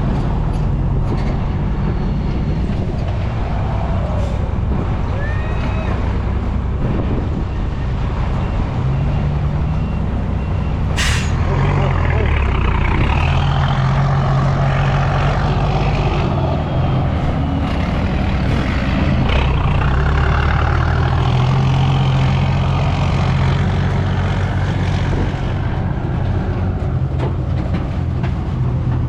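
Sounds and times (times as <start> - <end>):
diesel truck engine with loud exhaust: 0.0 - 29.0.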